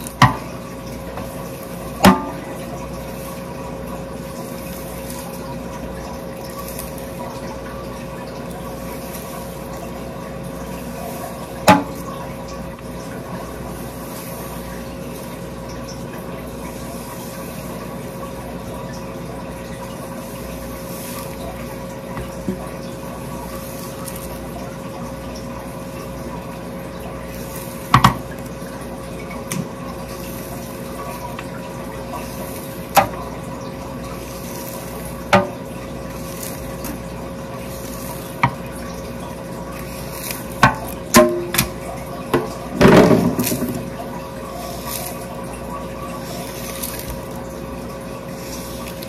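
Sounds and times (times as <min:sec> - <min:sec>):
steady hum: 0:00.0 - 0:49.0
water running into a steel sink: 0:00.0 - 0:49.0.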